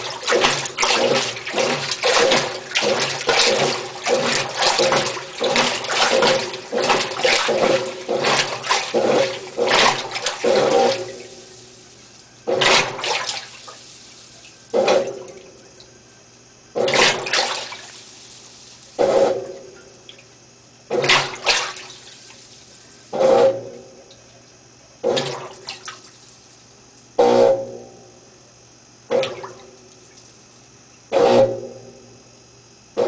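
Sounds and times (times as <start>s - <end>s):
washing machine sloshing water: 0.0s - 27.5s, 29.1s - 31.7s.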